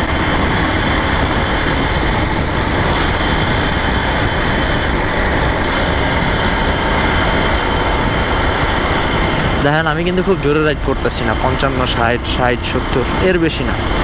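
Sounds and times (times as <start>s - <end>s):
motorcycle engine drone: 0.0s - 14.0s
wind and road noise: 0.0s - 14.0s.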